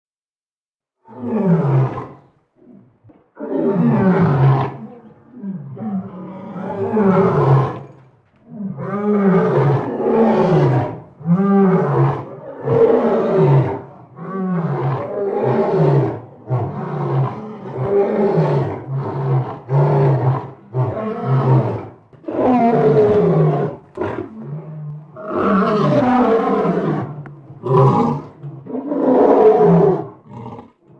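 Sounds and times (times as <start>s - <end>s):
lion roaring: 1.0s - 30.9s.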